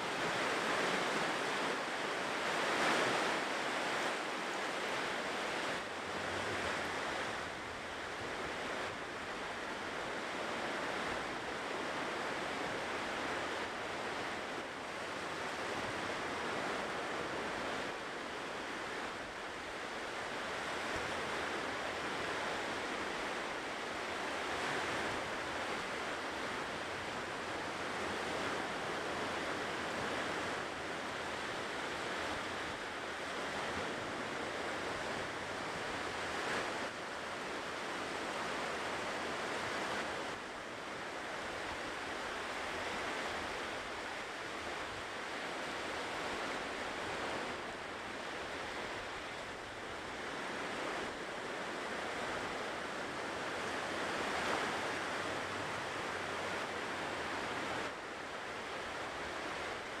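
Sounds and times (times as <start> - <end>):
ocean waves washing on shore: 0.0 - 60.0.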